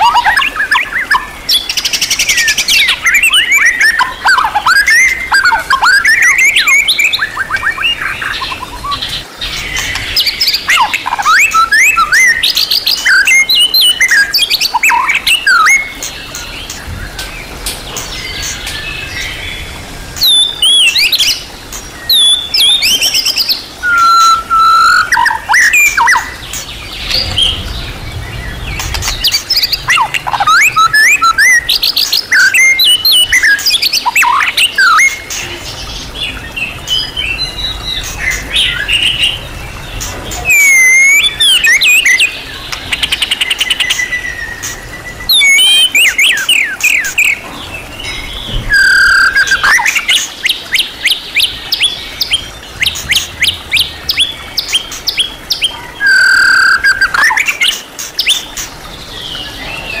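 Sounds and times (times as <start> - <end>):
songbird singing varied song: 0.0 - 60.0.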